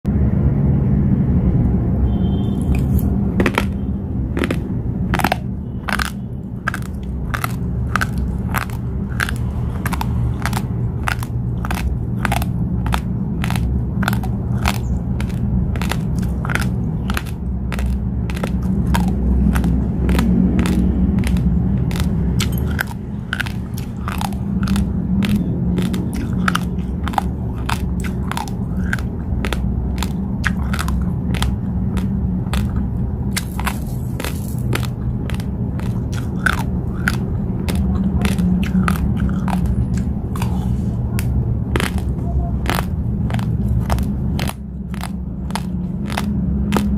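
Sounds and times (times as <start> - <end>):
low rumble: 0.1 - 46.9
rice being chewed crunchily: 2.6 - 46.9.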